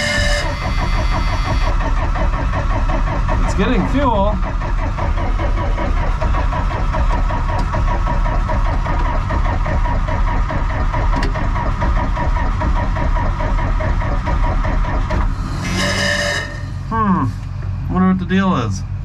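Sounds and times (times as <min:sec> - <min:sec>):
engine cranking by starter: 0:00.0 - 0:17.8.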